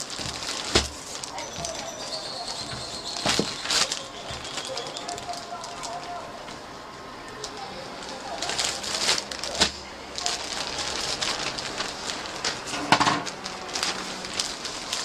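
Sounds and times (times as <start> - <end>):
plastic bag crinkling: 0.0 - 6.5, 7.3 - 15.0.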